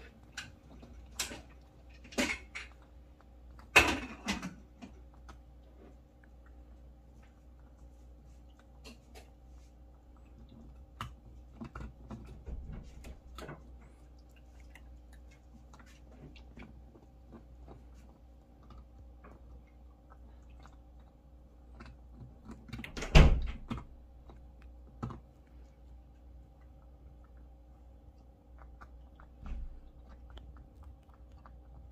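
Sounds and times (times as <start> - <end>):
dog chewing food: 0.0 - 31.9.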